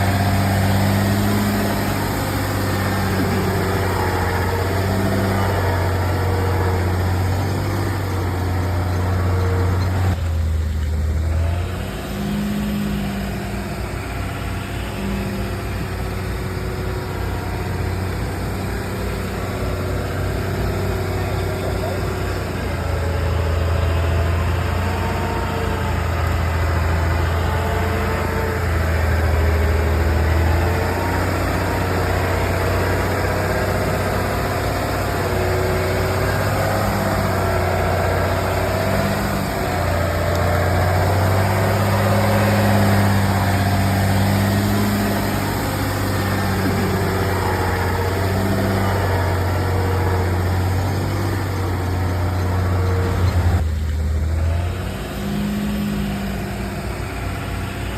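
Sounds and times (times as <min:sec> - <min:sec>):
heavy vehicle engine running: 0:00.0 - 0:57.9.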